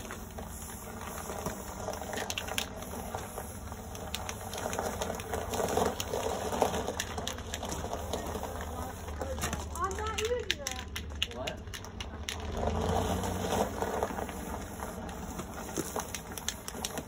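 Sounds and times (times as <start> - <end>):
spray paint can hissing on metal: 0.0 - 12.4, 13.0 - 17.0.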